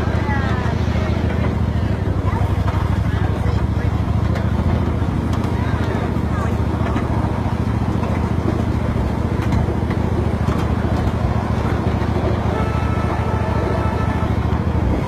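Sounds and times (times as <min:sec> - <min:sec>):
miniature train motor and wheels: 0:00.0 - 0:15.0.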